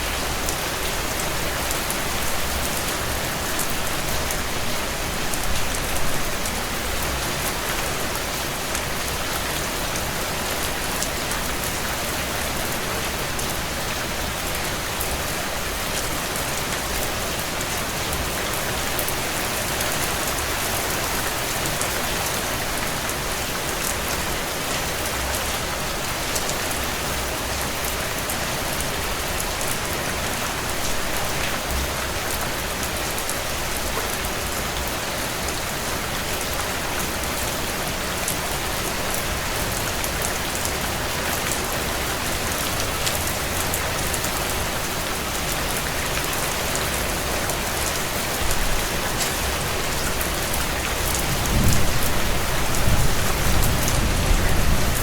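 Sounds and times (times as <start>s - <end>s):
heavy rain on window glass: 0.1s - 55.0s.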